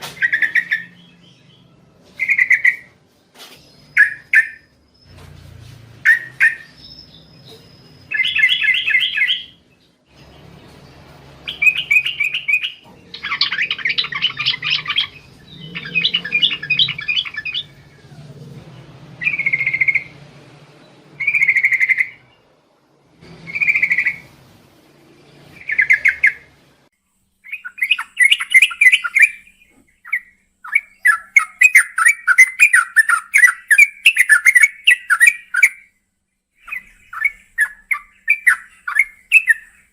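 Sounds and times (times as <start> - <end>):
bulbul singing: 0.0 - 3.0, 3.6 - 5.3, 6.0 - 20.2, 21.1 - 22.5, 27.4 - 36.0, 36.6 - 39.9.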